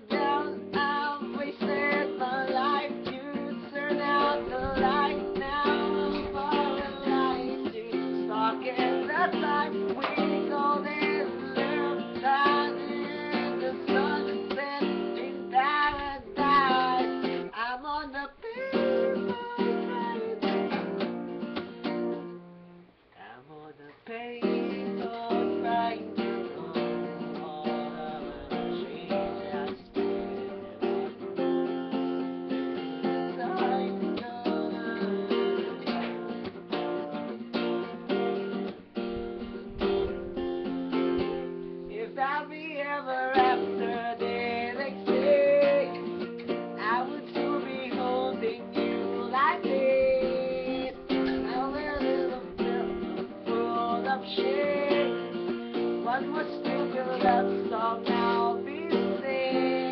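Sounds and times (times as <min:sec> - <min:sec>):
acoustic guitar strummed chords: 0:00.0 - 0:22.9, 0:24.1 - 0:59.9.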